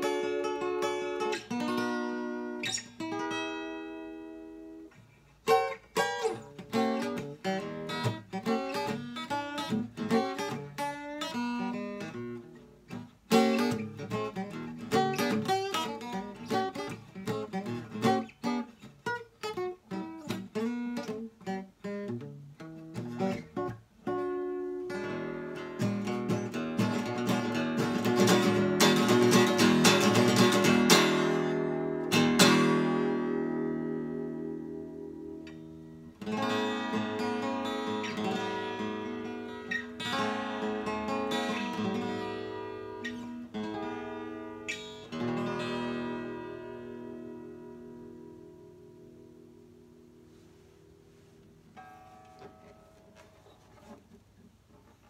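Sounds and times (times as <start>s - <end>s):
acoustic archtop guitar: 0.0s - 55.0s.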